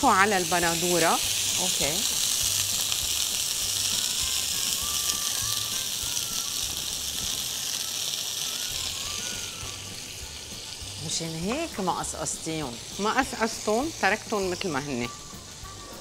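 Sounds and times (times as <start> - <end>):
tomatoes sizzling in frying pan: 0.0 - 16.0.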